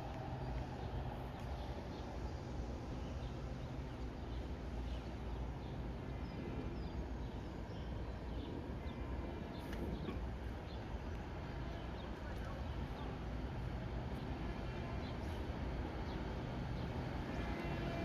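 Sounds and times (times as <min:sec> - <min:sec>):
hiss and low hum: 0:00.0 - 0:18.0.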